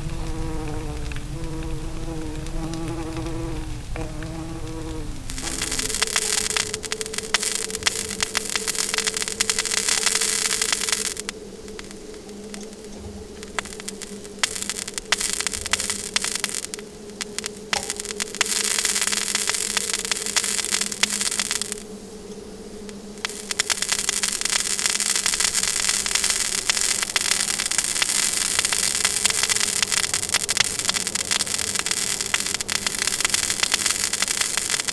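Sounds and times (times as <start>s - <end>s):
steady low hum: 0.0s - 33.8s
sputtering crackle and hiss: 0.0s - 34.9s.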